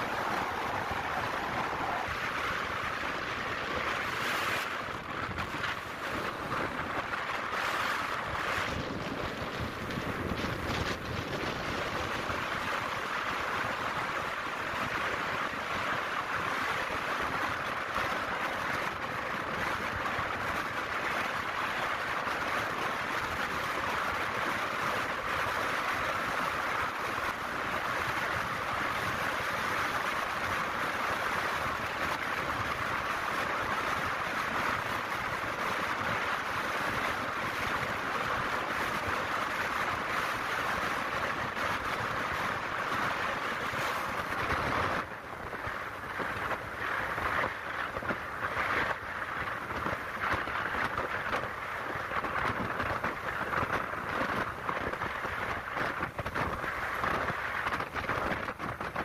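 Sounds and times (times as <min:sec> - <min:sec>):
tyre noise on paved road: 0:00.0 - 0:59.0
wind rushing past vehicle: 0:00.0 - 0:59.0.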